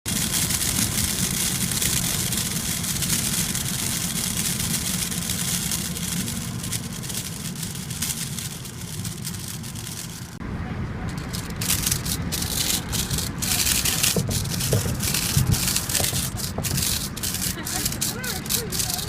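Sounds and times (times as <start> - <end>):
plastic envelope window rattling: 0.0 - 10.4, 11.1 - 19.0.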